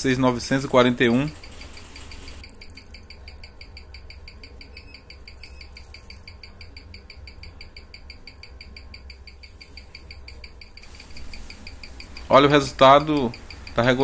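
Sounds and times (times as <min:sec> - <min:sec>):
watch ticking: 0:01.0 - 0:14.0.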